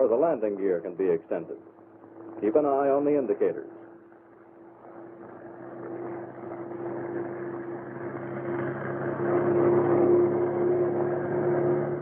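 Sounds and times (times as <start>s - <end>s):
aircraft engine hum: 0.0s - 12.0s.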